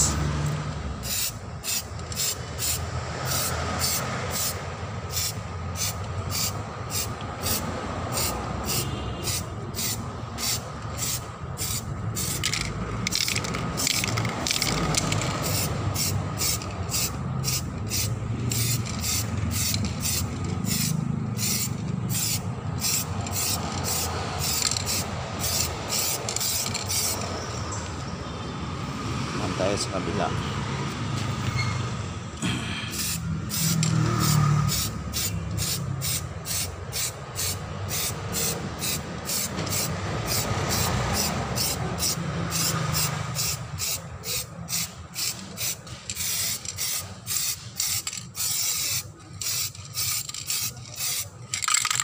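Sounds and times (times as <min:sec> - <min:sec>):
spray can hissing bursts: 0:01.0 - 0:27.4, 0:32.9 - 0:52.0.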